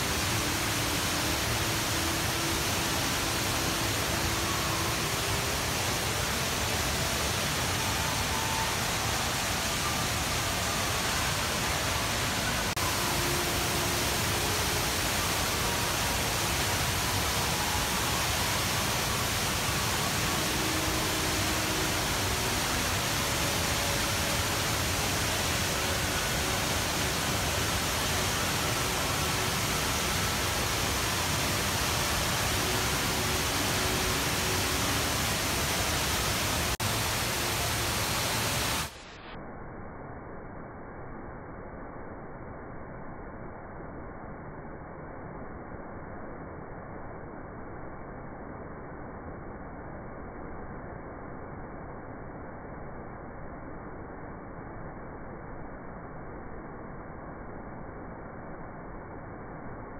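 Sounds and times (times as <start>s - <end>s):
indoor waterfall rushing: 0.0s - 59.9s.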